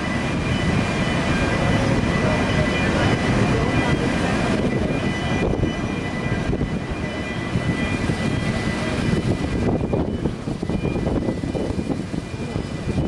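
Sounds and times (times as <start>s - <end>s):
gusty wind buffeting: 0.0s - 13.0s
ship engines rumbling: 0.0s - 13.0s.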